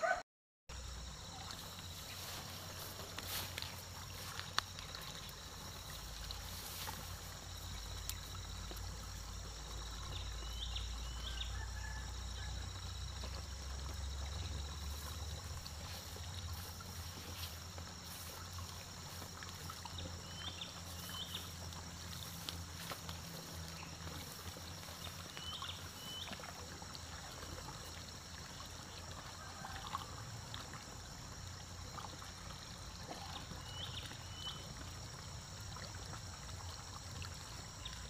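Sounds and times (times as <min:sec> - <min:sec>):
trickling water: 0:00.7 - 0:38.0.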